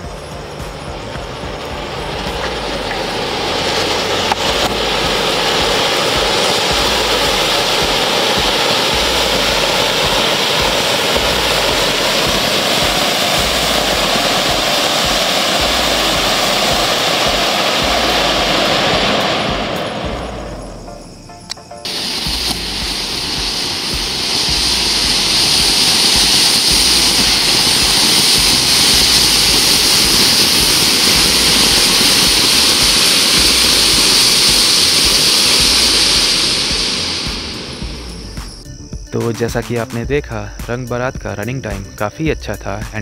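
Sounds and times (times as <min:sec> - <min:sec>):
firework fountain hissing: 0:00.0 - 0:43.0.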